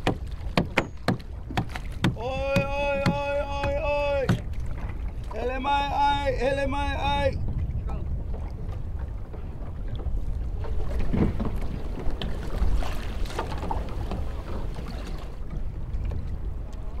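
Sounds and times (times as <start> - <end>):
water splashing and lapping: 0.0 - 17.0
wind rumbling on microphone: 0.0 - 17.0.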